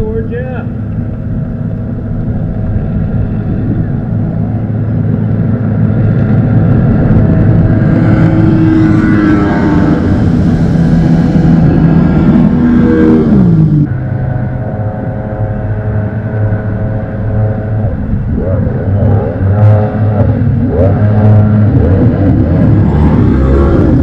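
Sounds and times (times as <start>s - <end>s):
jet boat engine rising and falling: 0.0s - 24.0s
racing jet boat engine passing: 0.0s - 24.0s.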